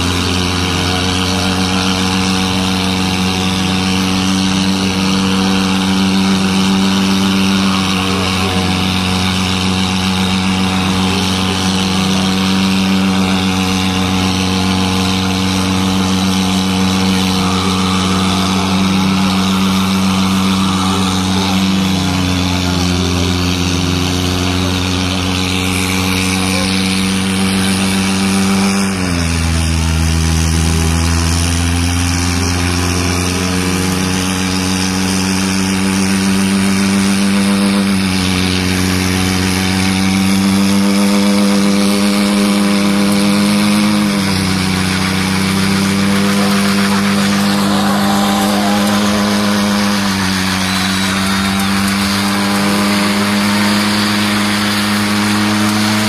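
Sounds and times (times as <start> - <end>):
car engine at high revs: 0.0 - 56.0
tyres spinning: 0.0 - 56.0.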